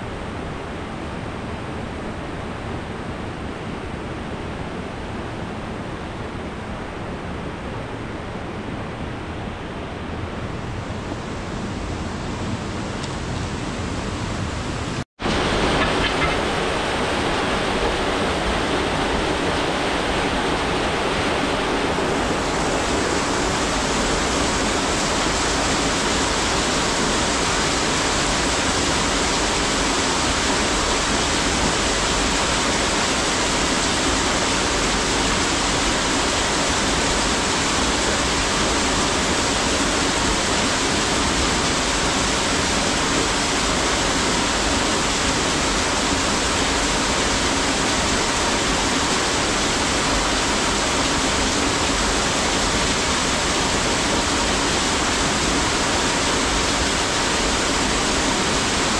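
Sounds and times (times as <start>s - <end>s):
steady rushing noise: 0.0s - 58.9s.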